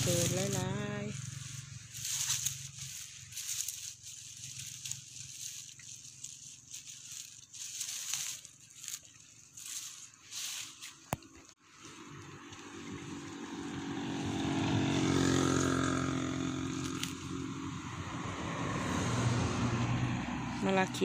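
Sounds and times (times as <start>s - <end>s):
dry leaves rustling and crunching: 0.0s - 21.0s.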